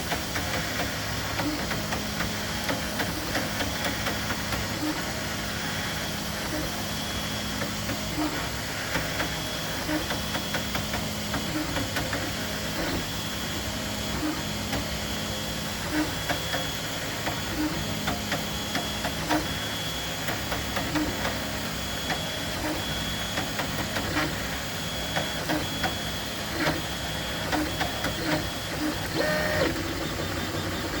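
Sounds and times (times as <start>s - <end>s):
printer whining tones: 0.1s - 31.0s.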